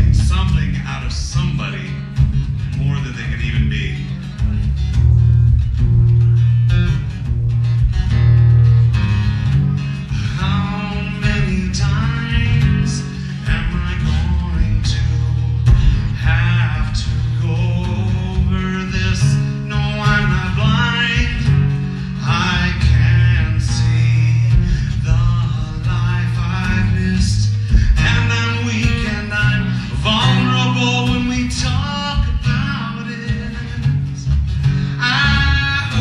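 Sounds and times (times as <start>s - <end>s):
man singing: 0.0s - 4.3s, 10.0s - 36.0s
acoustic guitar strumming: 0.0s - 36.0s.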